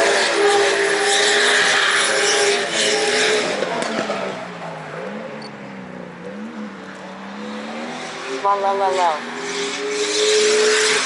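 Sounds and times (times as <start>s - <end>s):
car engines at high revs: 0.0s - 11.0s.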